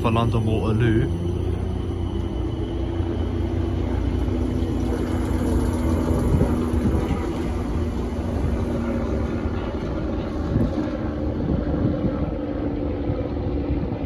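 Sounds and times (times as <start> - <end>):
train wheels rumbling: 0.0 - 11.8
electric hum: 0.0 - 14.0.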